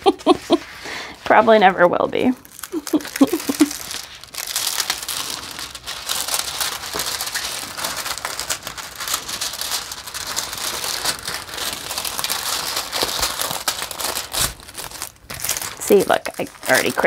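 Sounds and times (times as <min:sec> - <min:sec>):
plastic film crinkling: 0:00.0 - 0:17.0.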